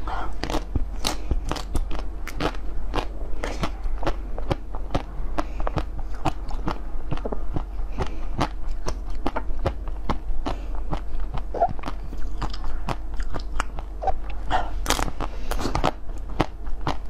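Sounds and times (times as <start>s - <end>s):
person crunching frozen food: 0.0s - 17.0s.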